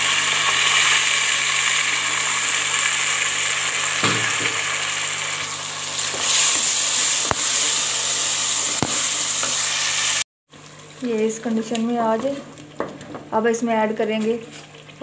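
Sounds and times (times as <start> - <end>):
food sizzling in hot oil: 0.0 - 12.9.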